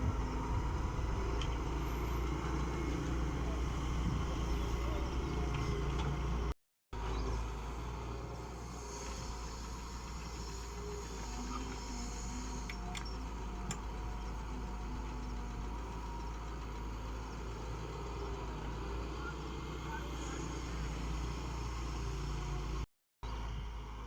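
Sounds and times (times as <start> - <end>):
diesel engine low rumble: 0.0 - 24.0.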